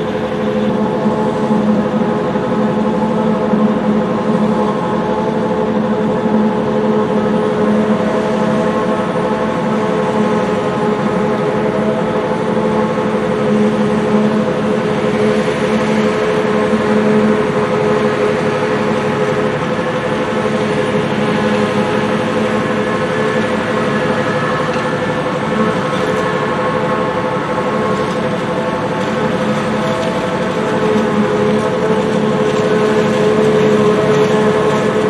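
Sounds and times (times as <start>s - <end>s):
forage harvester droning: 0.0s - 35.0s.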